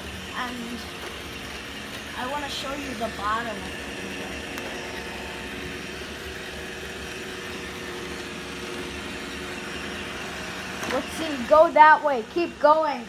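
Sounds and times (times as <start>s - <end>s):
robot vacuum hum: 0.0s - 13.0s
steady whine: 0.0s - 13.0s.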